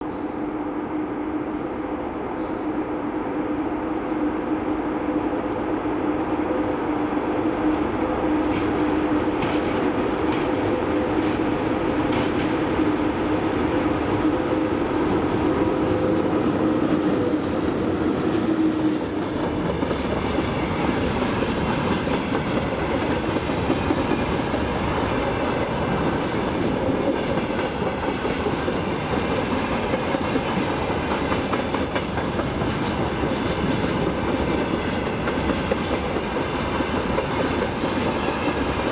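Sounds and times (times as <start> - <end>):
train wagons clattering over rails: 7.6 - 38.9.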